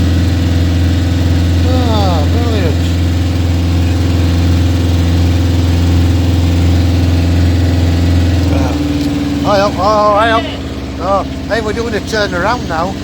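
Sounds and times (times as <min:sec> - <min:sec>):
motorboat engine droning: 0:00.0 - 0:13.0
high steady tone: 0:01.6 - 0:13.0.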